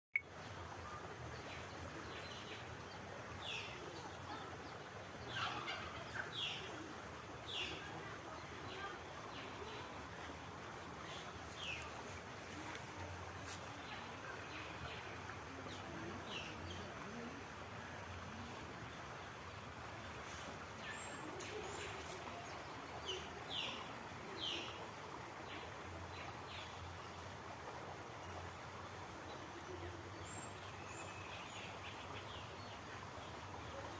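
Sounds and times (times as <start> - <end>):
outdoor background noise: 0.2 - 33.9
steady background hiss: 0.2 - 33.9.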